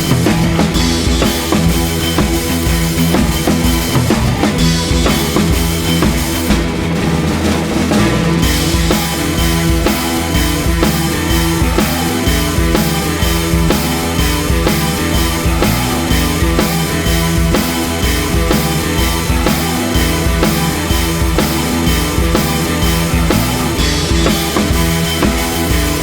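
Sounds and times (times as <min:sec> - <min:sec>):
rock music with drum beat: 0:00.0 - 0:26.0.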